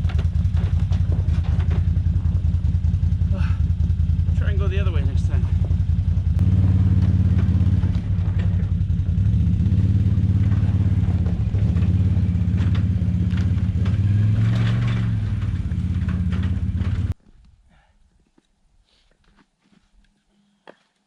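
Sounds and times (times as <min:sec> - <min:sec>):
atv engine running: 0:00.0 - 0:17.2
rattles and knocks: 0:00.0 - 0:17.2.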